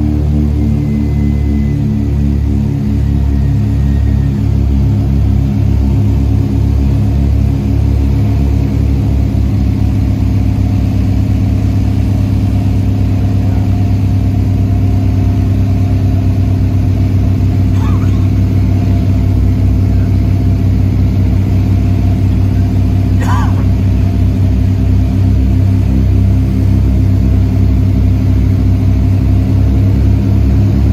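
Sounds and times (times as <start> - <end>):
propeller aircraft engines droning: 0.0 - 30.9.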